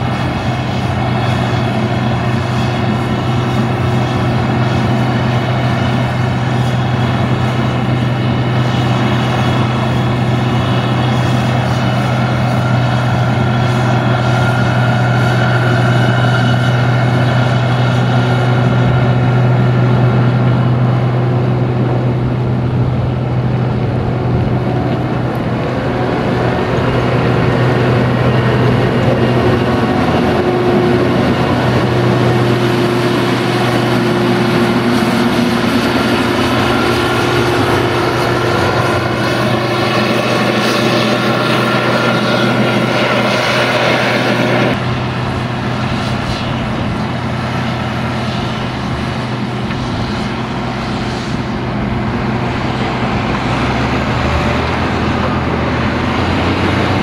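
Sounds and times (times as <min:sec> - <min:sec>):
combine diesel engine humming: 0:00.0 - 0:57.0
quieter tractor engine: 0:00.0 - 0:57.0.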